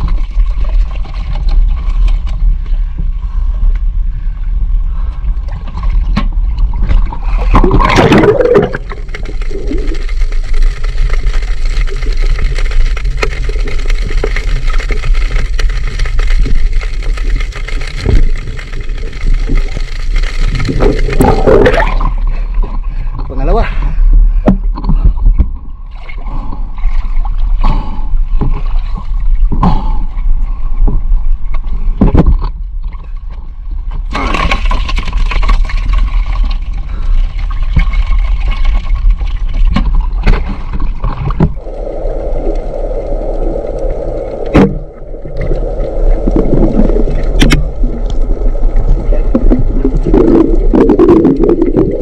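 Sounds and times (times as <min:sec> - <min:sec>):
low rumble: 0:00.0 - 0:52.0
water sloshing and gurgling: 0:00.0 - 0:52.0.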